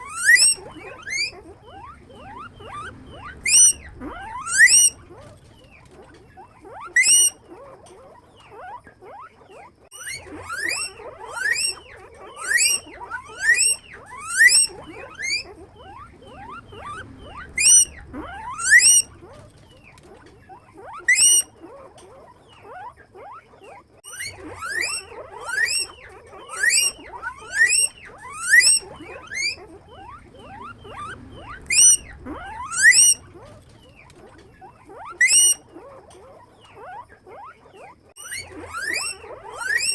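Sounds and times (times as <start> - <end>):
guinea pig wheeking: 0.0 - 39.9.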